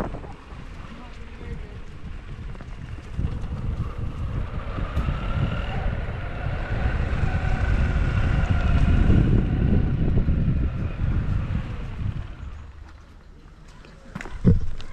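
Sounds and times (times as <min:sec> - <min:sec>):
wind buffeting microphone: 0:00.0 - 0:13.2, 0:14.2 - 0:14.9.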